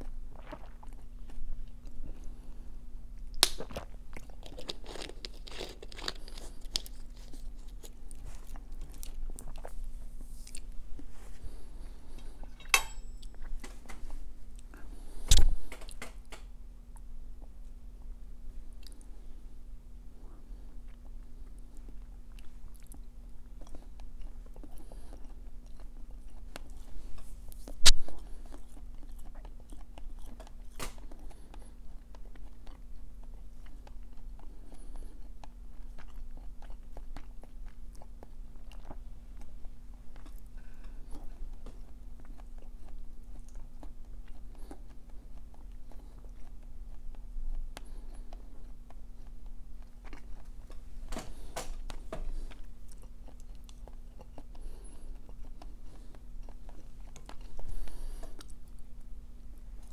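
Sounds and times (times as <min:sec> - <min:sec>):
person chewing food: 0:00.0 - 0:16.1, 0:16.9 - 0:19.2, 0:20.3 - 0:59.9.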